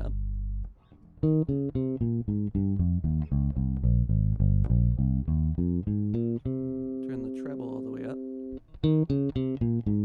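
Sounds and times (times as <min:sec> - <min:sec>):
electric bass plucked notes: 0:00.0 - 0:10.0.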